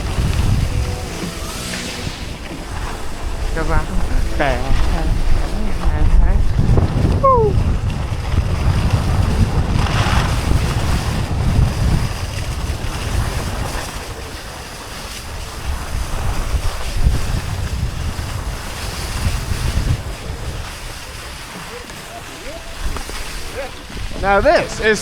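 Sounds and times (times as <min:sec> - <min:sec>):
skis sliding over snow: 0:00.0 - 0:25.0
wind rushing over microphone: 0:00.0 - 0:25.0.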